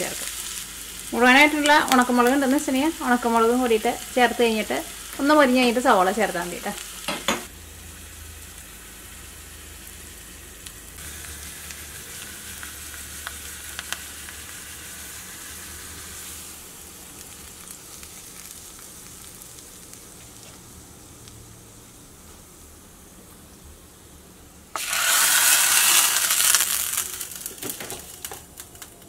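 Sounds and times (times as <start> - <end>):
spices sizzling and crackling in oil: 0.0 - 23.1, 24.7 - 29.0.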